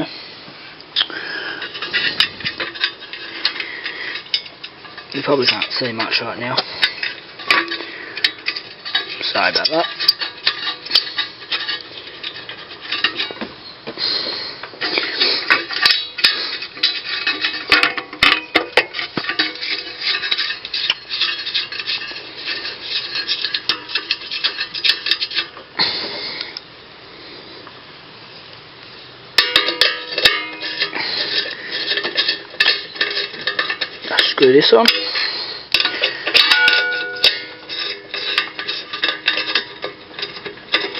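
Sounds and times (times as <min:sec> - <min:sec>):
metal tools clinking: 0:01.0 - 0:25.6, 0:29.4 - 0:40.9.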